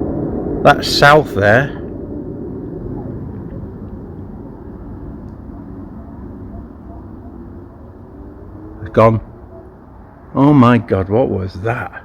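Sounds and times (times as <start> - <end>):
distant aircraft rumble: 0.0 - 12.0.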